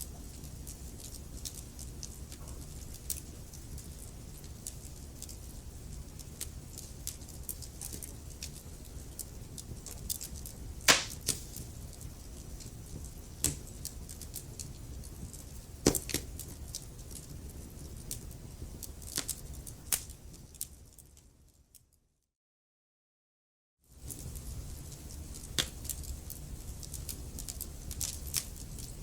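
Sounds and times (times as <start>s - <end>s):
wood fire crackling and popping: 0.0s - 21.3s, 24.0s - 29.0s
low rumble of burning logs: 0.0s - 21.8s, 23.9s - 29.0s.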